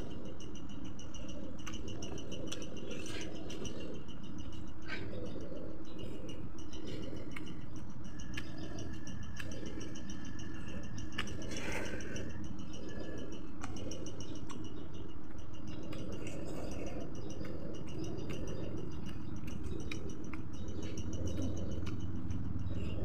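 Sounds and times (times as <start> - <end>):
high pulsing chirp: 0.0 - 23.0.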